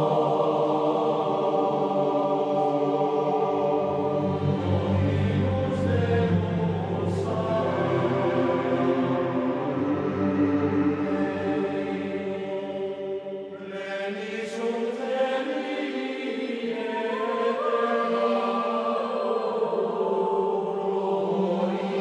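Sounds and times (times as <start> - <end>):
slow choral chanting: 0.0 - 22.0.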